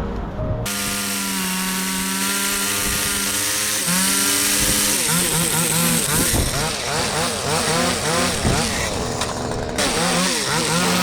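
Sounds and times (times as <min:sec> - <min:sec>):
string trimmer running: 0:00.6 - 0:11.0.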